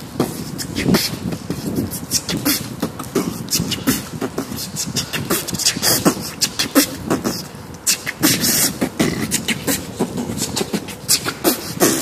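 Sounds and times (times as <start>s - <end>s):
steady hiss of rain: 0.0s - 12.0s.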